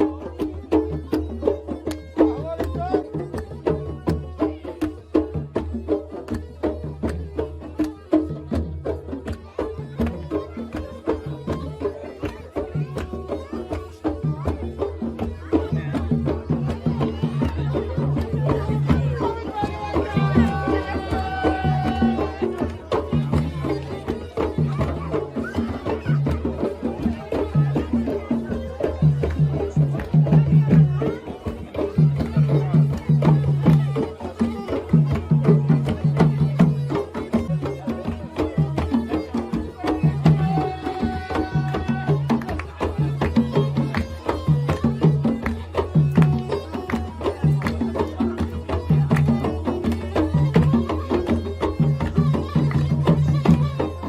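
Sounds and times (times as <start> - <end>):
hand drums steady beat: 0.0 - 54.0
middle eastern instrumental music: 0.0 - 54.0.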